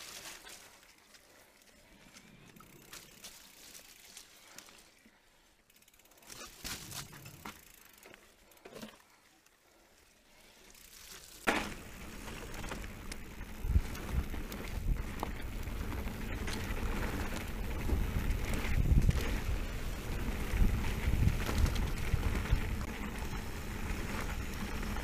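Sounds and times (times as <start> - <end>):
bike clicks and rattles: 0.0 - 25.0
bike tyre noise on dirt: 0.0 - 25.0.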